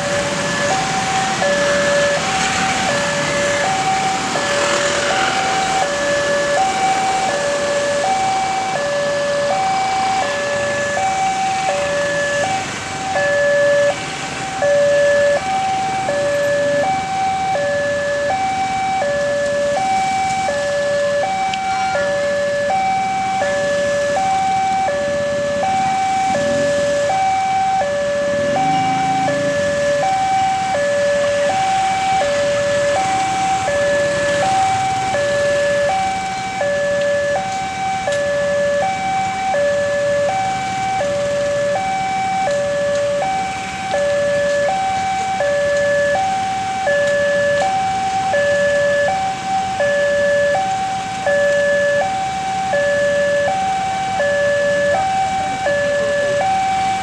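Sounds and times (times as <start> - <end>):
level crossing alarm tone: 0.0 - 57.0.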